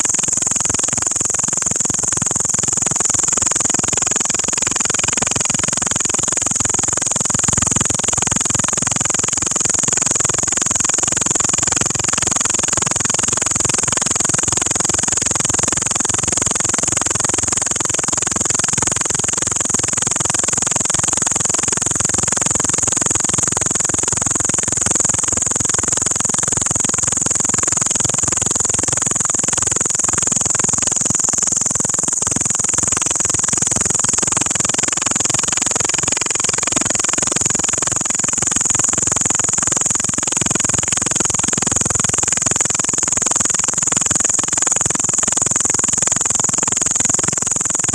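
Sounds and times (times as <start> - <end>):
insect buzzing: 0.0 - 47.9.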